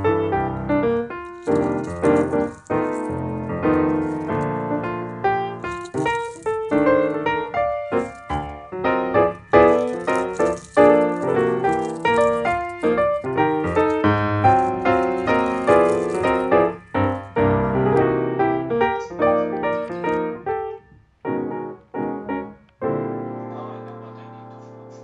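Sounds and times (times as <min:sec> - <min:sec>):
piano chords: 0:00.0 - 0:25.0.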